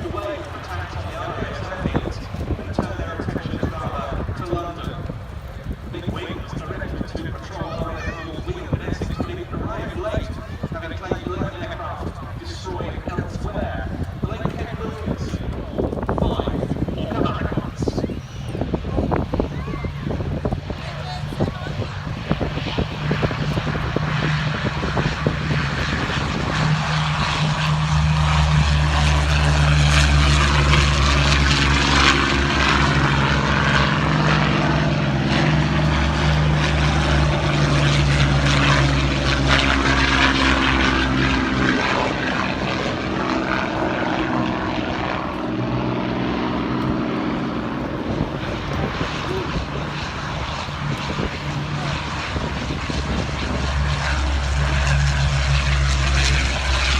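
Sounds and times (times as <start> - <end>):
propeller aircraft engines droning: 0.0 - 56.9.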